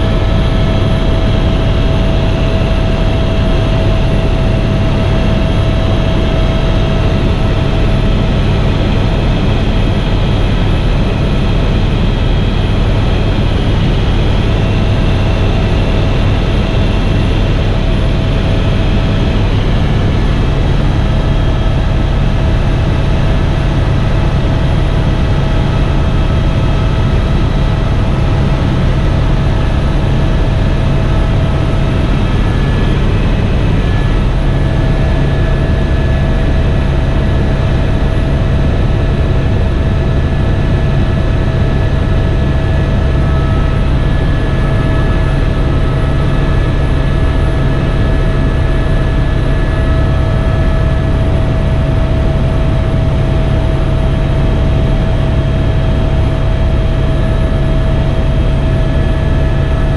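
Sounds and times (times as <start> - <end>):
helicopter rotor drone: 0.0 - 59.9.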